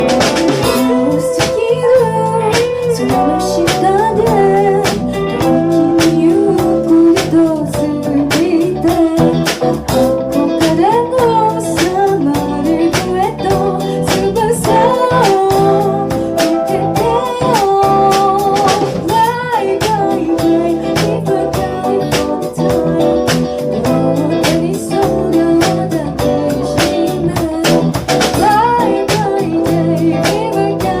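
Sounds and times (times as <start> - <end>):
bass: 0.0 - 31.0
guitar: 0.0 - 31.0
person singing: 0.0 - 31.0
steady drum beat: 0.0 - 31.0.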